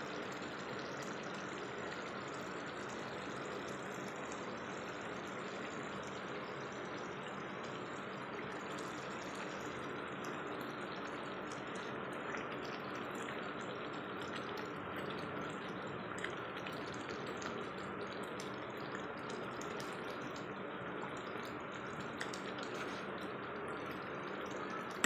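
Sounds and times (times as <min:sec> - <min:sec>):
curry simmering in a pan: 0:00.0 - 0:25.0.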